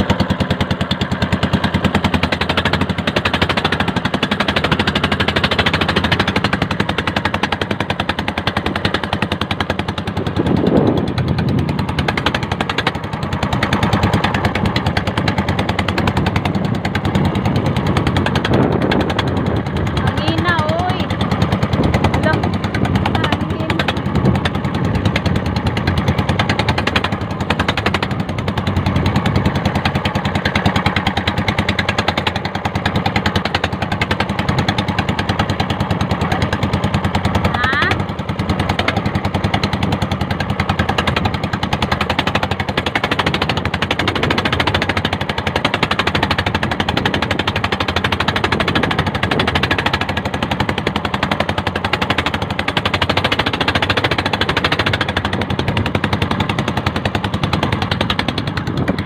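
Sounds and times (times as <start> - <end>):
boat engine popping exhaust: 0.0 - 59.0.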